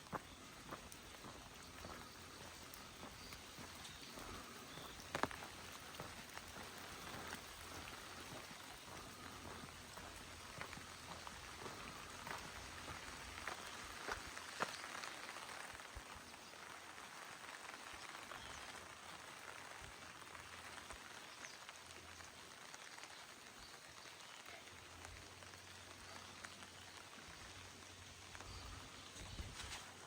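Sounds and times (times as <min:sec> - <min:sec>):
faint rain falling: 0:00.0 - 0:30.0.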